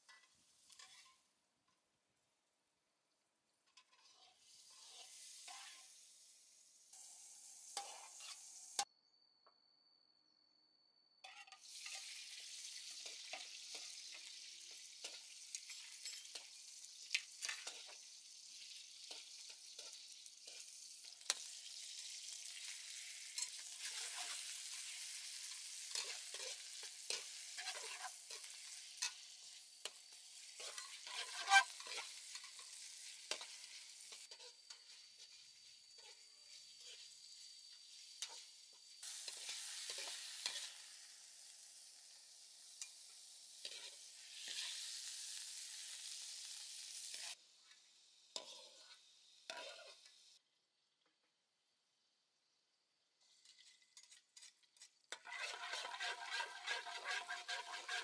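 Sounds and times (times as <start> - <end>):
metal spoon scraping a pan: 0.0 - 1.3, 3.6 - 6.0, 7.7 - 8.9, 11.2 - 41.6, 42.6 - 47.4, 48.3 - 50.2, 53.3 - 58.0
meat sizzling in a wok: 0.0 - 8.9, 11.3 - 53.7, 55.0 - 58.0.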